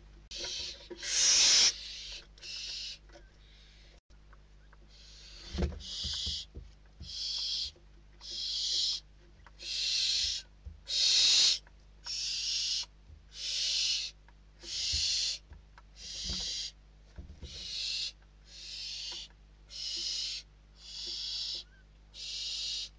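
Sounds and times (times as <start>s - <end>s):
barn owl chicks hissing: 0.3s - 4.0s, 4.9s - 9.0s, 9.6s - 16.8s, 17.4s - 21.6s, 22.2s - 22.9s.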